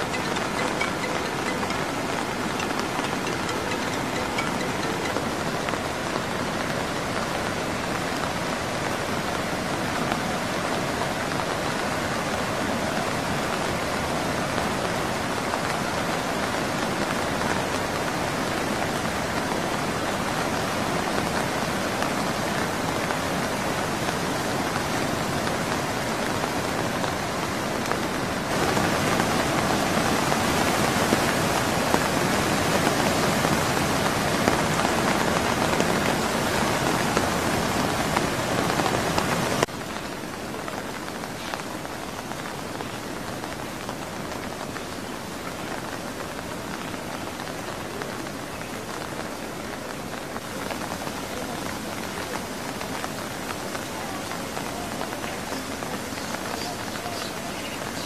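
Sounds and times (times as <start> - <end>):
heavy rain hissing: 0.0 - 58.0
river rushing: 0.0 - 58.0.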